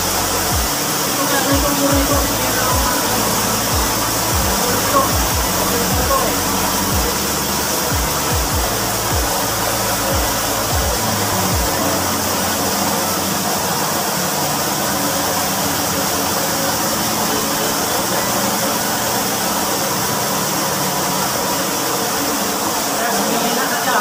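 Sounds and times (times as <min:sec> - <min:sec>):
water spraying hiss: 0:00.0 - 0:24.0.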